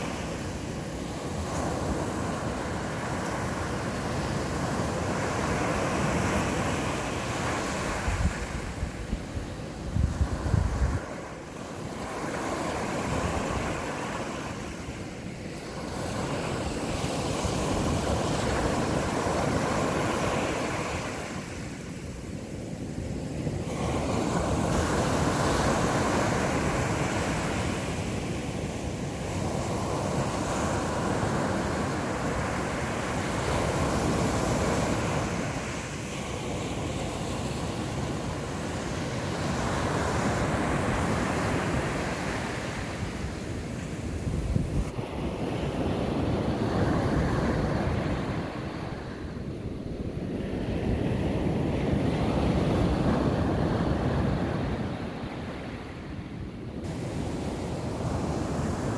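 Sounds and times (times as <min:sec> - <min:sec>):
waves breaking on sand: 0:00.0 - 0:58.9.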